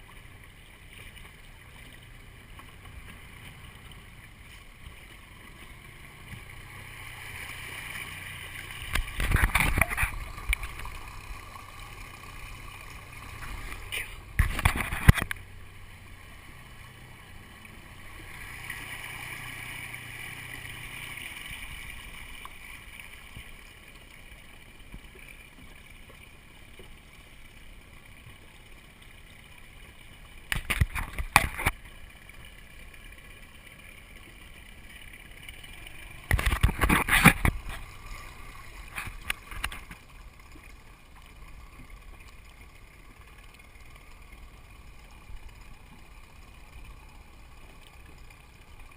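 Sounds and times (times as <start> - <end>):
water sloshing along hull: 0.0 - 48.9.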